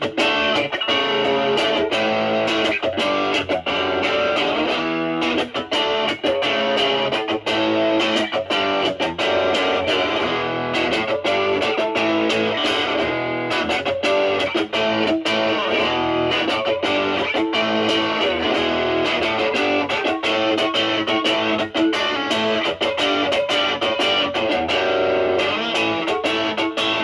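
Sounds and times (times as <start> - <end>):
distorted electric guitar: 0.0 - 27.0.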